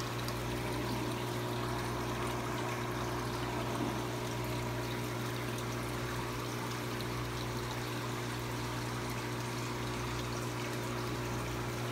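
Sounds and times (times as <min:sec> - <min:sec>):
constant low hum: 0:00.0 - 0:11.9
water pouring and trickling: 0:00.0 - 0:11.9.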